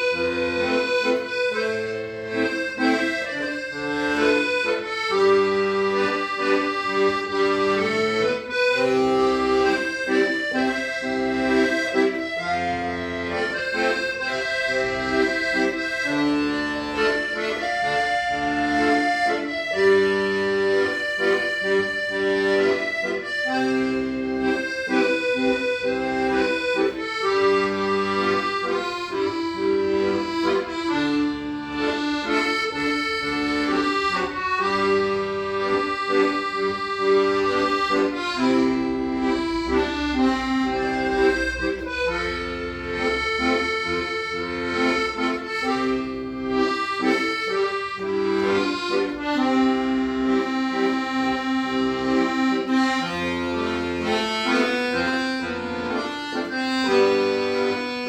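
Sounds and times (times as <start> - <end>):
accordion playing: 0.0 - 58.0.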